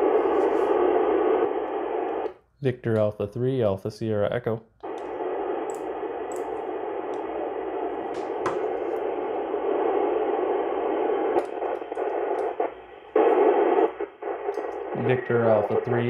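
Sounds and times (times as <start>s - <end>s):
radio static hiss: 0.0s - 2.8s, 4.8s - 16.0s.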